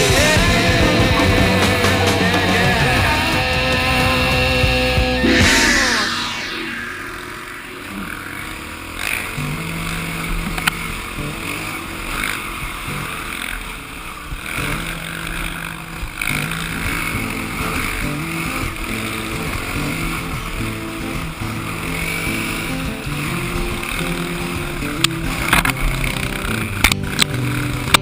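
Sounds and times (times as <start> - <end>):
off-road vehicle engine revving: 0.0 - 5.5, 7.8 - 28.0.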